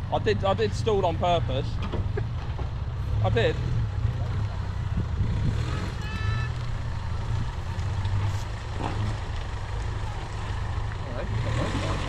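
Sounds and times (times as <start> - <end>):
car engine at low revs: 0.0 - 12.0.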